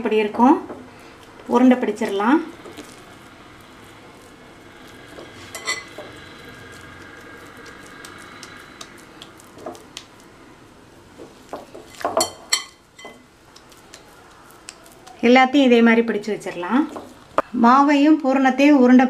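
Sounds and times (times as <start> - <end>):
hands handling dough: 0.4 - 17.5.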